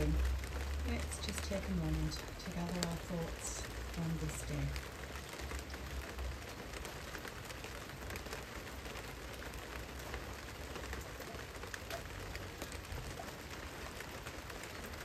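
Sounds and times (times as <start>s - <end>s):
rain on corrugated roof panels: 0.0s - 15.0s.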